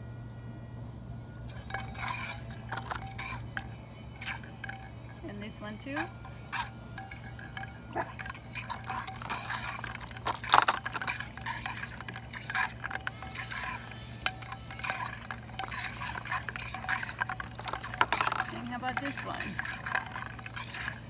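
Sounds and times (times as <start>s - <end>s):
water splashing in bowl: 1.6s - 21.0s.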